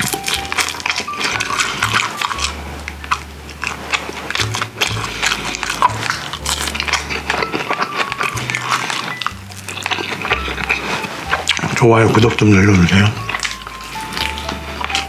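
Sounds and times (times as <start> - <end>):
background music with bass: 0.0 - 15.0
wet chewing and lip smacks: 0.0 - 15.0.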